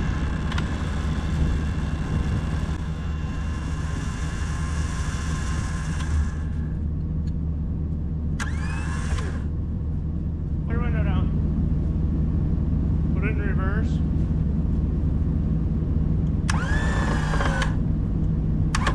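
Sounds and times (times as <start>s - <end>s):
winch whining: 0.0s - 7.4s, 8.3s - 9.9s, 11.2s - 18.9s
truck engine idling: 0.0s - 18.9s.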